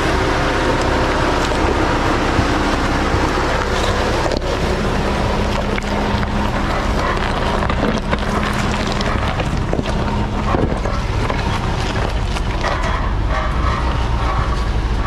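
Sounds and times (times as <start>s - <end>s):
car engine running: 0.0s - 15.0s
tyres rumbling on rock: 0.0s - 15.0s.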